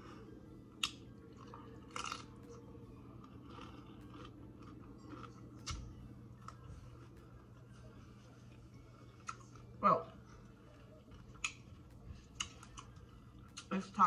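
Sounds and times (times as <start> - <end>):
chewing crunchy taco: 0.0 - 13.7.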